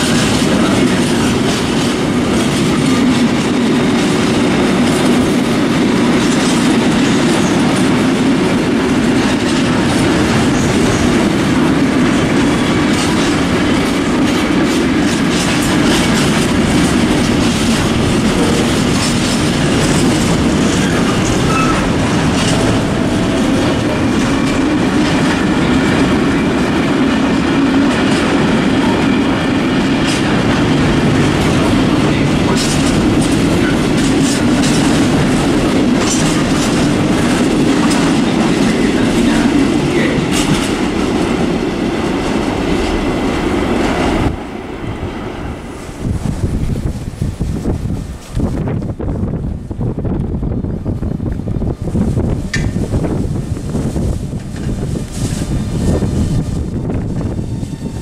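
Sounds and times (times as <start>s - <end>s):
wheels clicking over rail joints: 0.0s - 44.4s, 51.2s - 56.0s
freight train rumbling past: 0.0s - 58.0s.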